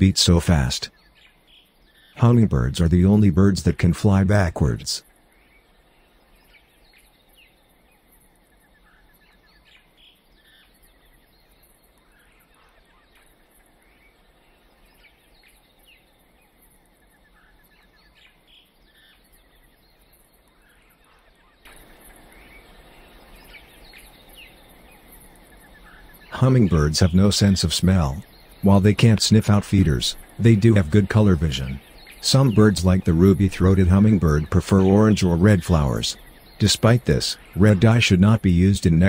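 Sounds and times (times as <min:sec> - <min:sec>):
faint bird chirps and trills: 0:00.0 - 0:39.0
quiet outdoor background: 0:00.0 - 0:39.0.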